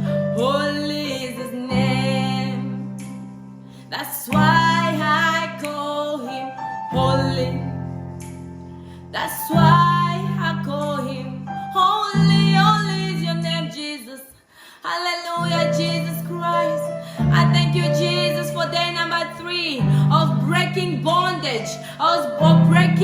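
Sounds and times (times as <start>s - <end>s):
woman singing a slow devotional song: 0.3s - 3.2s, 3.8s - 7.8s, 9.2s - 23.0s.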